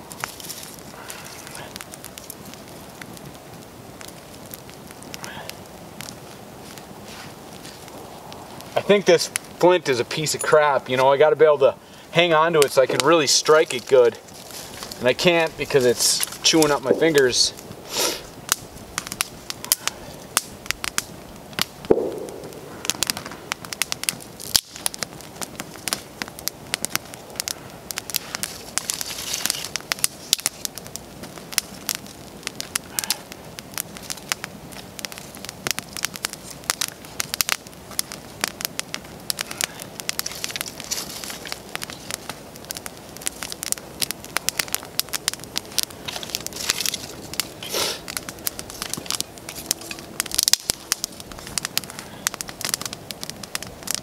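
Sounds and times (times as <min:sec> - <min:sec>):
campfire crackling and snapping: 0:00.0 - 0:54.0.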